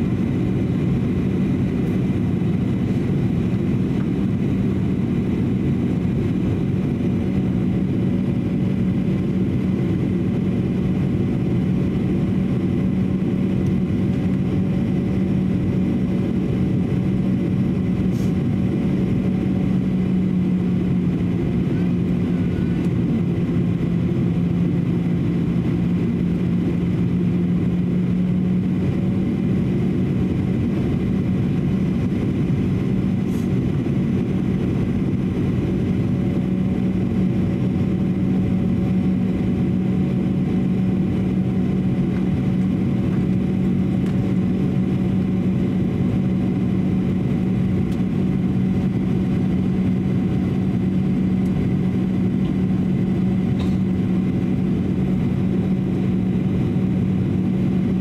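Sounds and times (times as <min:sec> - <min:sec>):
constant low hum: 0:00.0 - 0:58.0
jet engines droning: 0:00.0 - 0:58.0
rush of air in aircraft cabin: 0:00.0 - 0:58.0.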